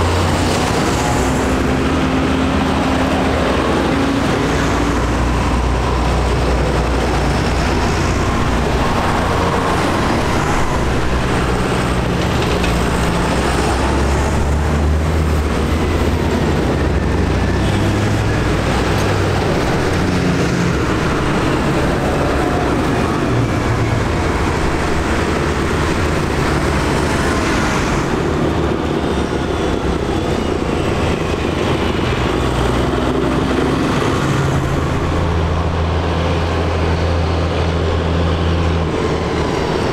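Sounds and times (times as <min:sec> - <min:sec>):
tractor engines driving past: 0:00.0 - 0:39.9.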